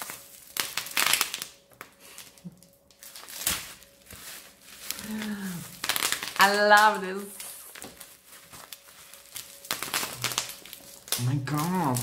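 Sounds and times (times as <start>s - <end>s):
bubble wrap popping and crinkling: 0.0s - 12.0s.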